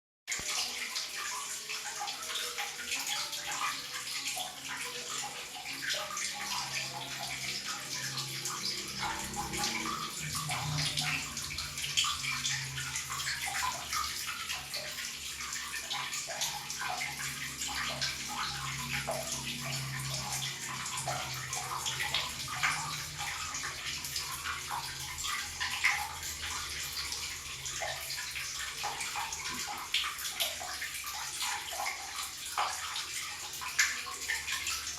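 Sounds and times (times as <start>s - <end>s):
tap water running and splashing: 0.3s - 34.9s.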